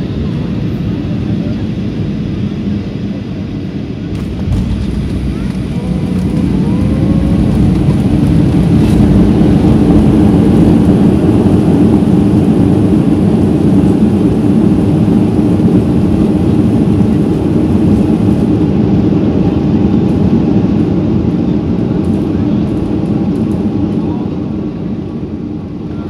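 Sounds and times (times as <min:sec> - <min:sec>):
jet engines roaring in cabin: 0:00.0 - 0:26.0
runway roll rumble: 0:00.0 - 0:26.0.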